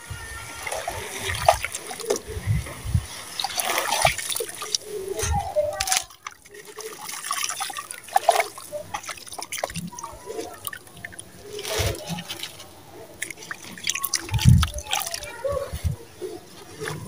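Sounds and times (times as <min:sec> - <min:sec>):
water dripping and splashing: 0:00.0 - 0:16.0
wet cement squelching by hand: 0:00.5 - 0:17.0.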